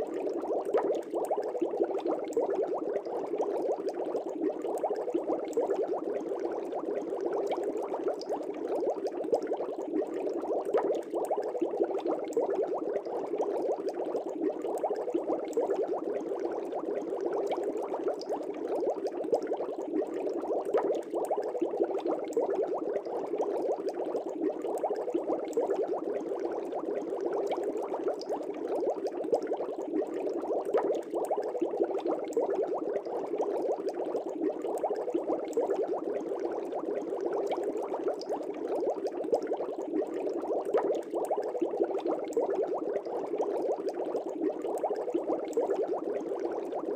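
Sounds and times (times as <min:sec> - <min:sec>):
aquarium air bubbling: 0:00.0 - 0:46.9.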